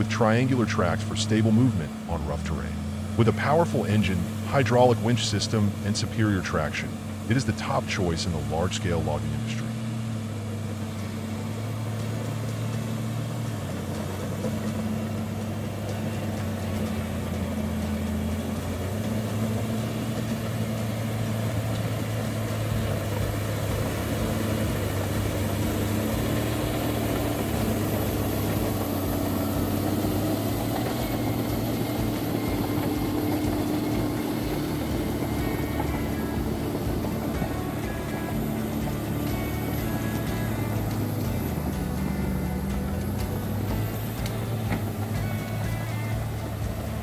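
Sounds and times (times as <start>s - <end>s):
heavy diesel engine droning: 0.0s - 47.0s.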